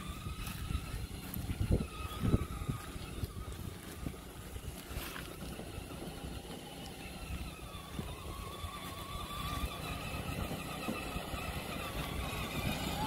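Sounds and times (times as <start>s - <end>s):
toy car electric motor whine: 0.0s - 13.0s
wind rumble on microphone: 0.0s - 13.0s.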